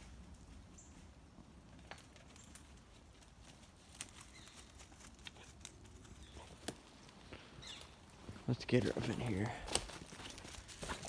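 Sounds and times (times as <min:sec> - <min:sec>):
footsteps crackling on dry leaves: 0:02.0 - 0:11.0.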